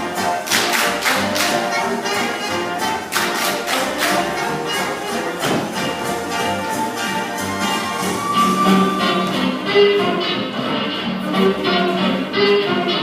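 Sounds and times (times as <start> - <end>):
big band swing music: 0.0 - 13.0.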